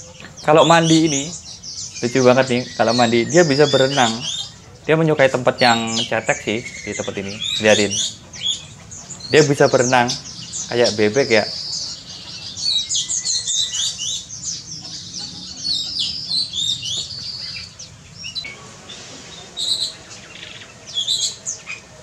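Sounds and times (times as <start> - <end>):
songbirds twittering: 0.0 - 22.0.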